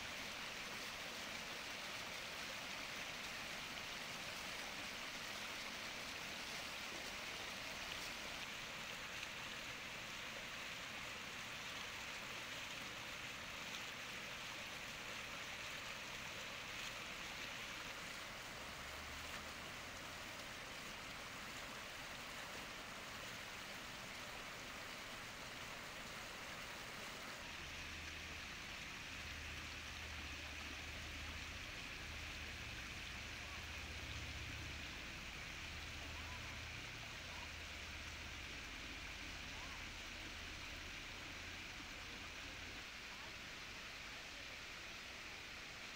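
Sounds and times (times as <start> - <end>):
fountain water splashing: 0.0 - 45.9.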